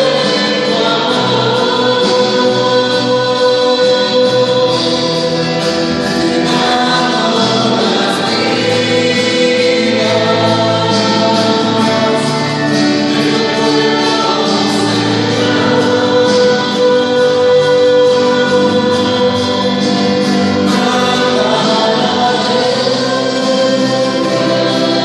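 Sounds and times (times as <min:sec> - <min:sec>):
choir singing worship song: 0:00.0 - 0:25.0.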